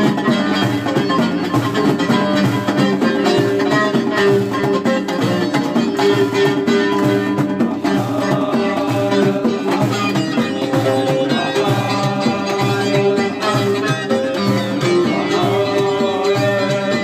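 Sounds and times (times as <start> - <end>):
plucked string instruments: 0.0 - 17.0.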